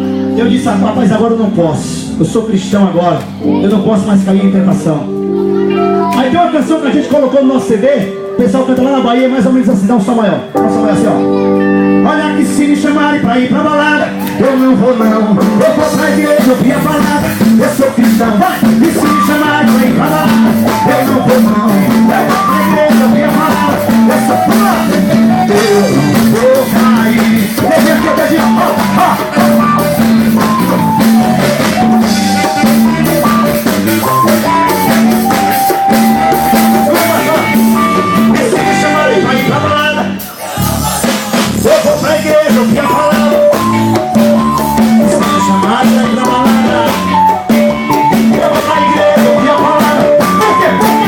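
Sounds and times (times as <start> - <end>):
guitar: 0.0 - 51.0
keyboard-like melody: 0.0 - 51.0
live band playing upbeat song: 0.0 - 51.0
drum kit: 2.0 - 51.0.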